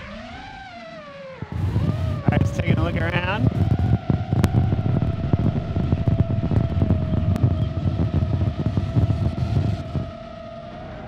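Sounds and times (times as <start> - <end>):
drone motors whining: 1.3 - 11.0
wind buffeting microphone: 1.4 - 10.5.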